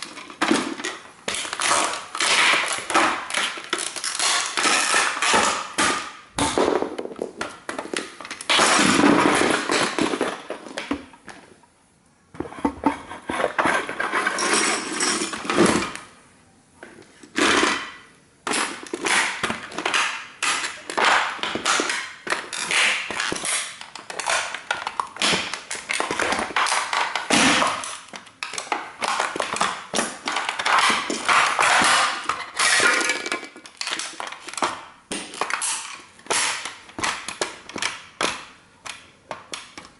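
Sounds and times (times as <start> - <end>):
model car cracking and crunching: 0.0 - 11.2, 17.3 - 39.9.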